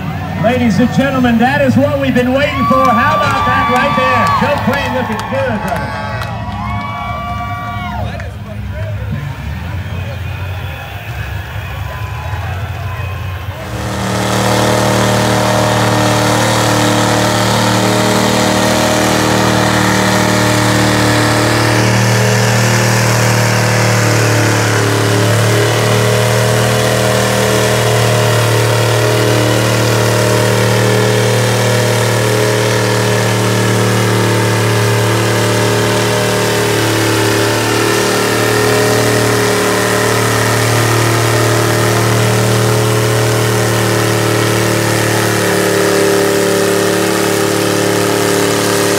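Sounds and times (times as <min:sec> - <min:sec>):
loud truck engine running: 0:00.0 - 0:48.9.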